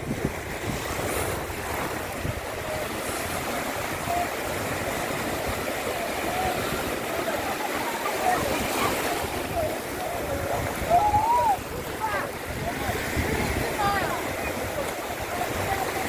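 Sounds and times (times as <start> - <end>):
small ocean waves breaking: 0.0 - 16.0.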